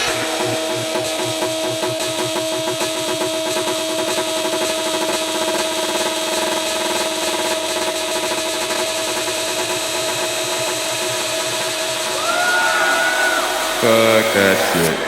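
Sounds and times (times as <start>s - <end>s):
minimal techno music: 0.0s - 12.1s.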